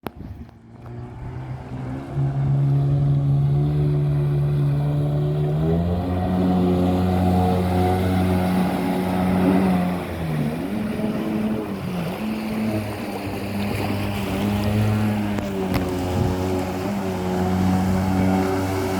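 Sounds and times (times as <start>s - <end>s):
jet ski engine running: 0.0s - 18.9s.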